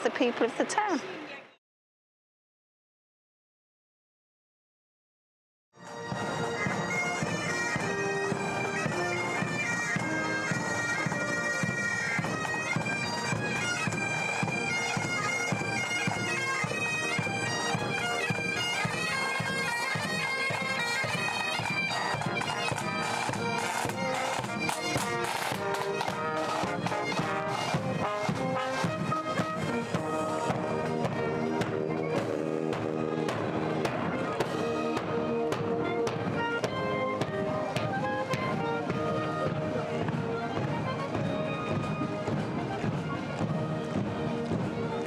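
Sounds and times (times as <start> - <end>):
bagpipes playing melody: 5.8 - 45.0
drum beats: 5.8 - 45.0.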